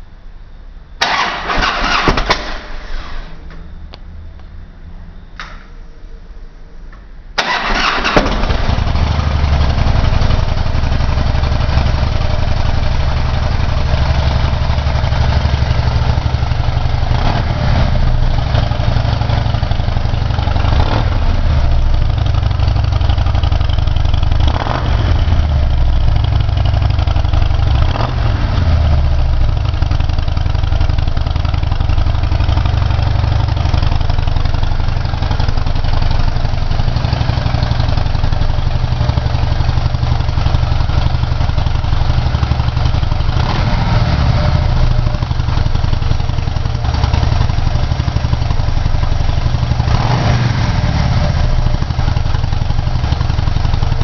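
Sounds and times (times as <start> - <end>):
motorcycle engine idling: 7.4 - 54.0.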